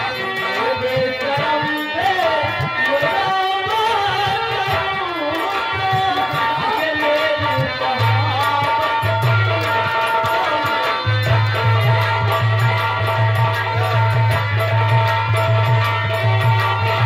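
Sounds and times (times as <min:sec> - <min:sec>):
hand drum: 0:00.0 - 0:17.0
held accompanying notes: 0:00.0 - 0:17.0.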